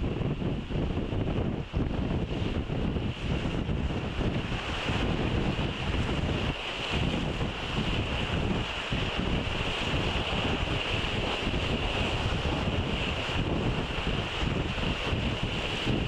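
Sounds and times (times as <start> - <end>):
water rushing along a hull: 0.0 - 16.0
wind buffeting microphone: 0.0 - 16.0.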